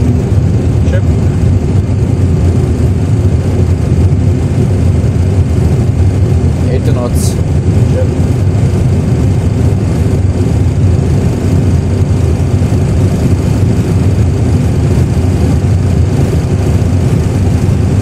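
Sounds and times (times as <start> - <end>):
jet engine and runway rumble: 0.0 - 18.0.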